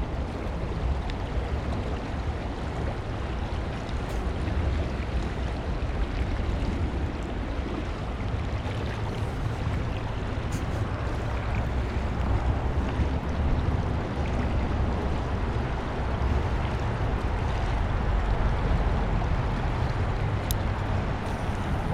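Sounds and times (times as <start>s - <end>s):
low rumble: 0.0s - 21.9s
stream water rushing: 0.0s - 21.9s.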